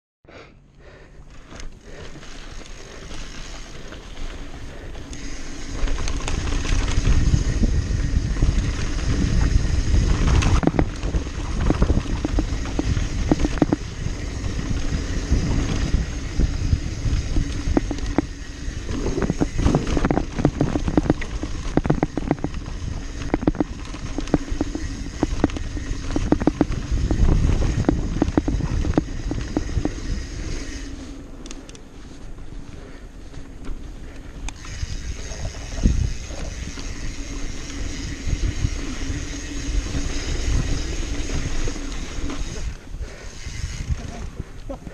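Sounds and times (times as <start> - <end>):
bike rattling and knocking: 1.3 - 31.0, 32.4 - 44.9
tyres rolling over loose dirt: 1.3 - 44.9
wind buffeting microphone: 4.6 - 30.9, 32.3 - 44.9.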